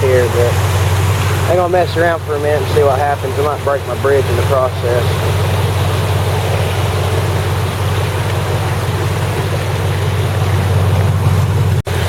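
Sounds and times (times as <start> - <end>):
vehicle engine humming: 0.0 - 12.0
wash of noise: 0.0 - 12.0.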